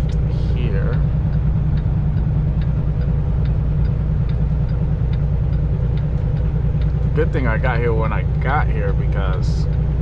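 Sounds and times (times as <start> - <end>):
diesel truck engine rumble: 0.0 - 10.0
turn signal ticking: 0.0 - 10.0.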